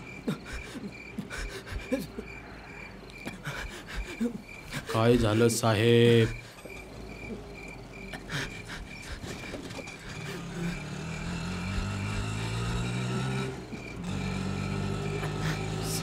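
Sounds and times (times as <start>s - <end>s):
auto-rickshaw engine humming: 0.0s - 16.0s.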